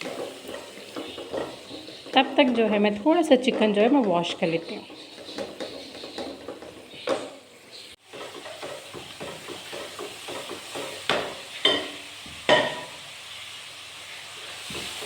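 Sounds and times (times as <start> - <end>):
spoon scraping and knocking pot: 0.0 - 7.4, 8.1 - 13.0
spices sizzling in a pot: 0.0 - 15.0.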